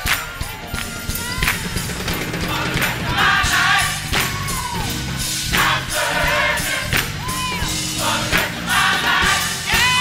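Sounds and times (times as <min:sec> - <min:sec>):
strong drum beats: 0:00.0 - 0:10.0
choir singing gospel with band: 0:00.7 - 0:10.0.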